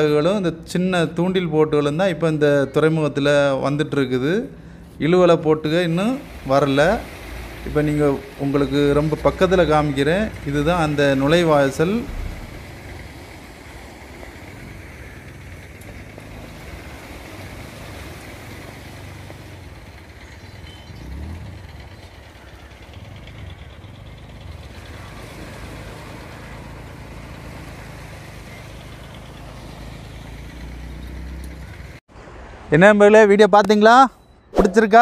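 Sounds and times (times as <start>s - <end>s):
engine running at low speed: 2.0s - 32.6s.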